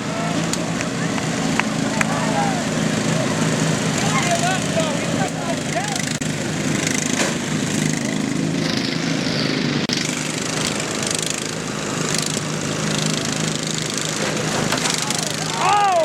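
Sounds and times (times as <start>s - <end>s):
lawn mower engines running: 0.0s - 16.0s.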